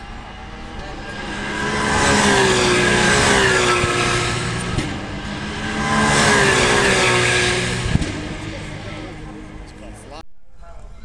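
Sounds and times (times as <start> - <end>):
race cars passing at speed: 0.0 - 10.2.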